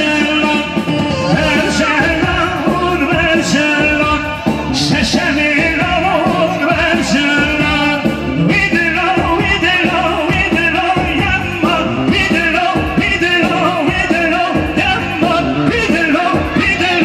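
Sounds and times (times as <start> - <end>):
dance music with singing: 0.0 - 17.0.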